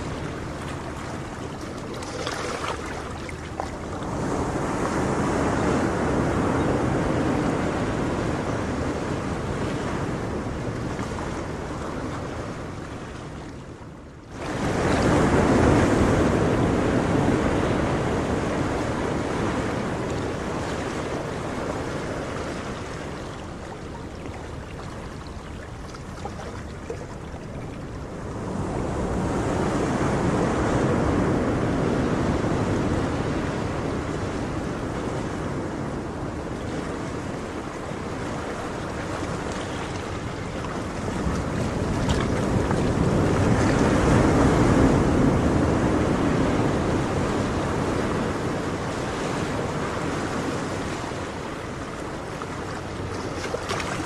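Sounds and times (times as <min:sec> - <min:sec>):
ocean surf waves washing in: 0:00.0 - 0:54.0.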